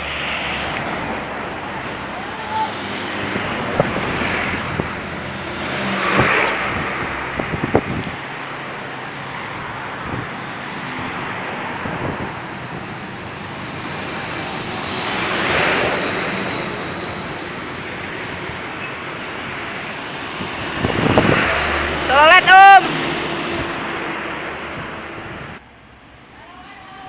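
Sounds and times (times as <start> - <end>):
vehicle passing close: 0.0 - 26.4
rush of passing vehicles: 0.0 - 27.0.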